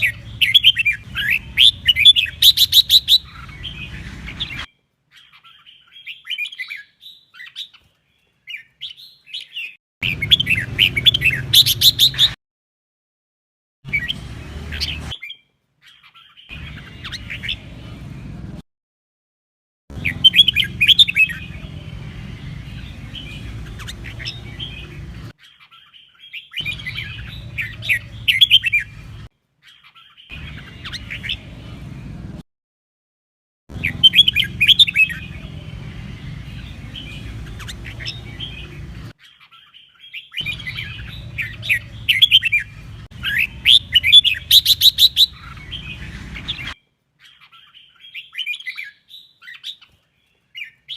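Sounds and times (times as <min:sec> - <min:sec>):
bird chirping: 0:00.0 - 0:12.4, 0:13.9 - 0:18.4, 0:19.9 - 0:32.2, 0:33.7 - 0:50.9.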